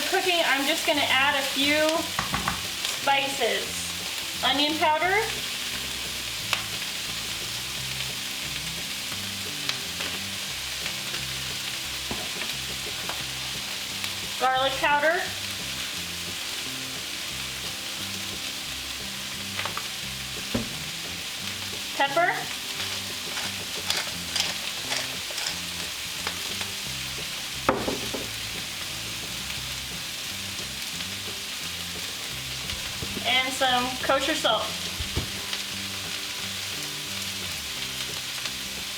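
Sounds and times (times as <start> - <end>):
vegetables sizzling in oil: 0.0 - 38.9.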